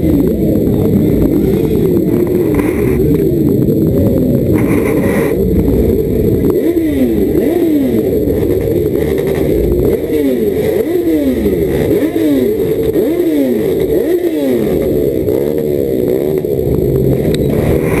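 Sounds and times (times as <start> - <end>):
engines running: 0.0 - 18.0
motorcycle engines revving: 0.0 - 18.0.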